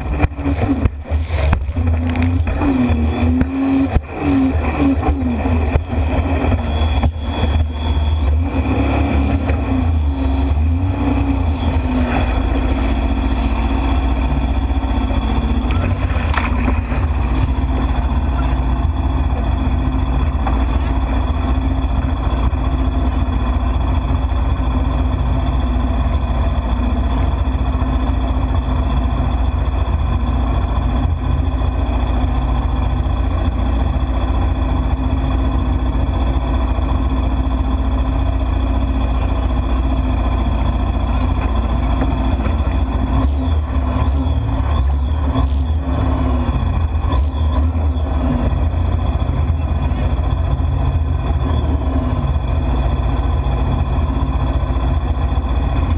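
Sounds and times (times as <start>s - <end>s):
jet ski engine running: 0.0s - 55.9s.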